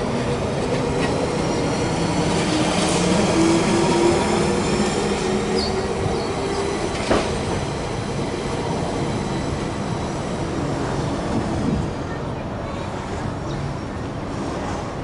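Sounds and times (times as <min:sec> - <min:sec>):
tram rolling rumble: 0:00.0 - 0:15.0.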